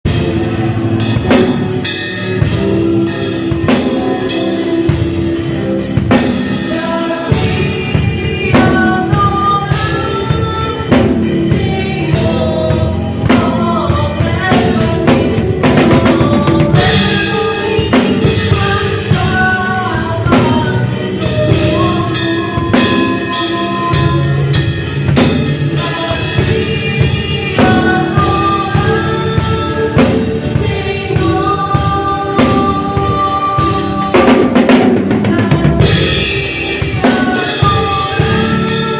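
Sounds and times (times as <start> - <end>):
drum kit playing: 0.0 - 38.9
song with singing voice: 0.1 - 38.9.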